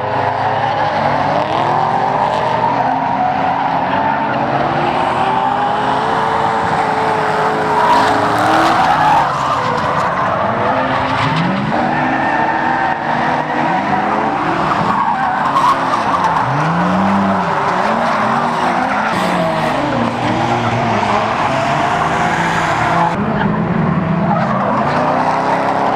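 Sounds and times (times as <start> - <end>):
car engines revving: 0.0 - 25.9
skidding tyres squealing: 0.0 - 25.9.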